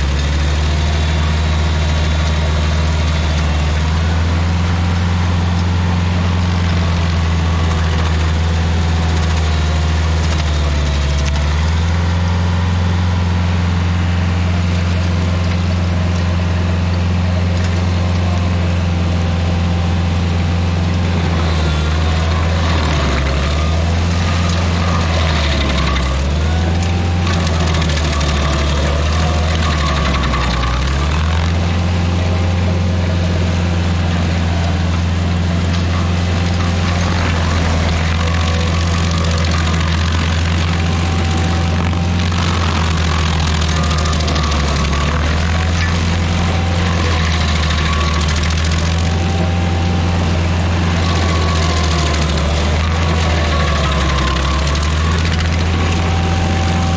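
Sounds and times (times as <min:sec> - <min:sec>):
stump grinder engine running: 0:00.0 - 0:56.9.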